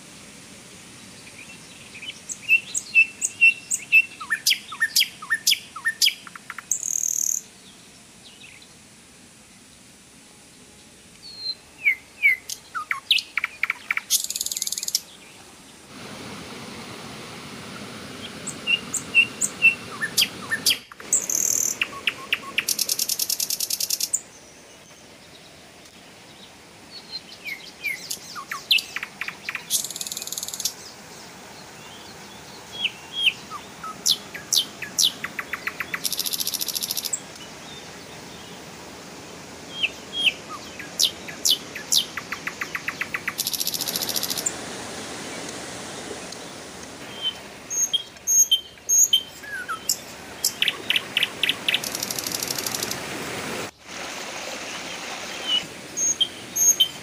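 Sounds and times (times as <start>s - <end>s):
songbirds chirping and trilling: 0.0s - 15.9s, 17.7s - 53.8s, 54.6s - 57.0s.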